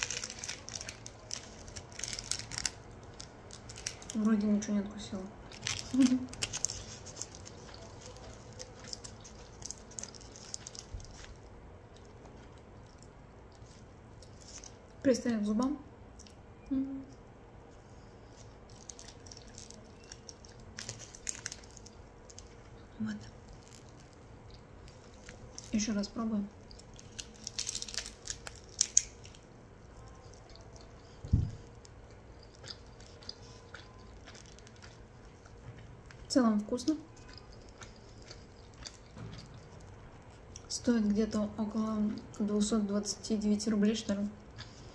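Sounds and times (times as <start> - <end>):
chewing crisp food: 0.0 - 4.4, 5.4 - 15.0, 18.0 - 25.8, 26.5 - 41.2, 44.0 - 44.9.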